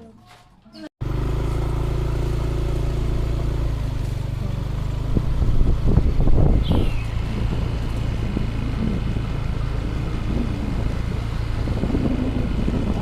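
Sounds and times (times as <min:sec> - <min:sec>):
road noise: 0:01.0 - 0:13.0
vehicle engine humming: 0:01.0 - 0:13.0.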